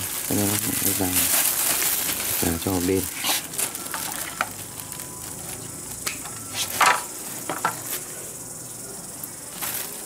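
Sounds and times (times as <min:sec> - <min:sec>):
plastic bag crinkling: 0:00.0 - 0:08.1, 0:09.5 - 0:10.0.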